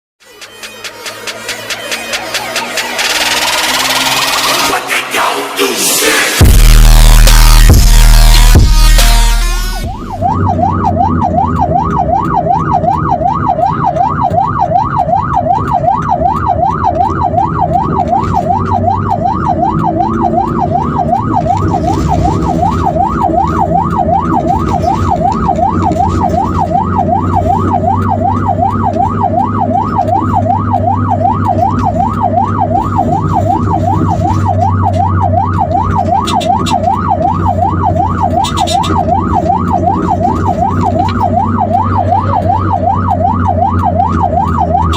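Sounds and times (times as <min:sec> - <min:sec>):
ambulance siren yelping: 0:00.2 - 0:44.9
vehicle and road rumble: 0:00.2 - 0:44.9.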